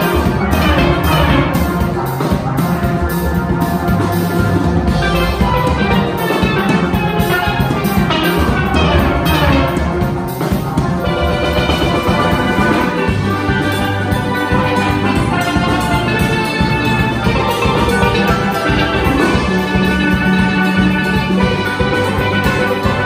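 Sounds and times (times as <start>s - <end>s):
drum kit beat: 0.0s - 23.0s
steel pans playing calypso: 0.0s - 23.0s.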